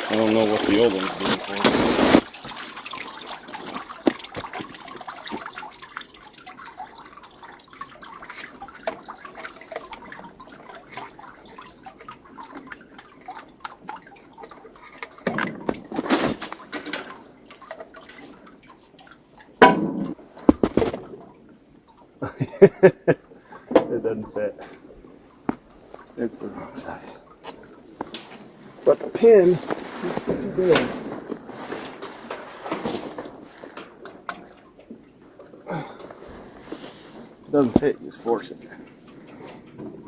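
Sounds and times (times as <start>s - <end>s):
water dripping and trickling: 0.0s - 40.0s.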